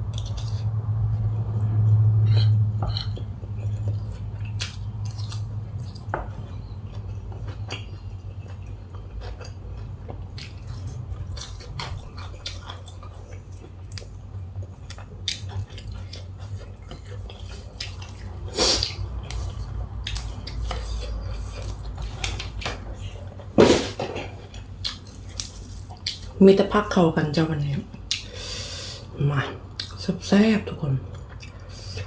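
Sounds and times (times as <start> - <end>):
steady low hum: 0.0 - 32.0
chewing: 0.1 - 23.5, 24.2 - 26.4, 31.1 - 32.0.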